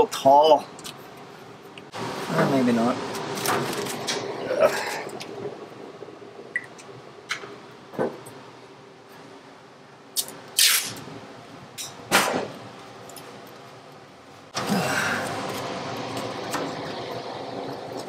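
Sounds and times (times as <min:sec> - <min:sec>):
steady machine noise: 0:01.9 - 0:10.1, 0:11.1 - 0:18.0.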